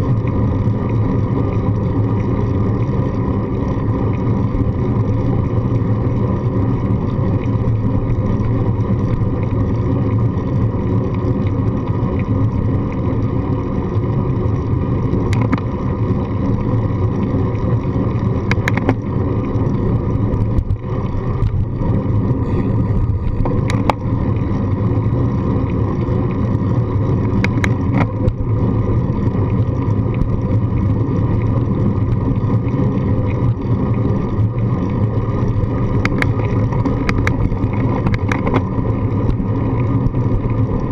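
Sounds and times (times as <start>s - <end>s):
wind and road rumble: 0.0s - 40.9s.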